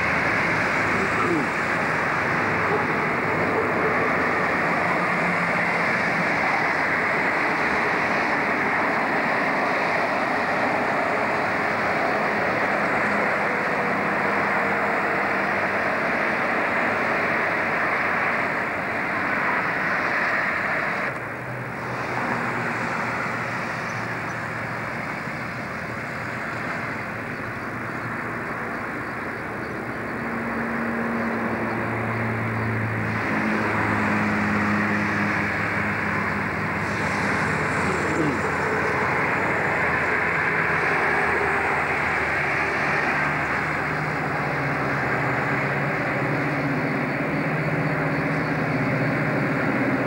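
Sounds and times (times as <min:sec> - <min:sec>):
diesel train passing: 0:00.0 - 0:50.0
distant train engine drone: 0:00.0 - 0:50.0.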